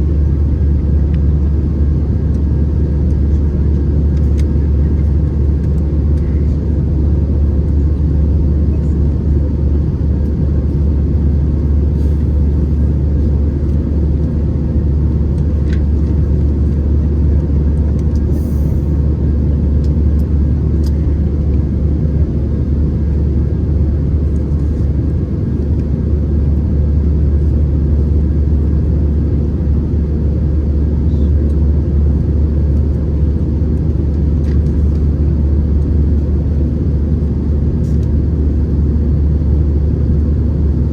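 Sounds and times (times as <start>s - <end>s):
aircraft cabin engine drone: 0.0s - 40.9s.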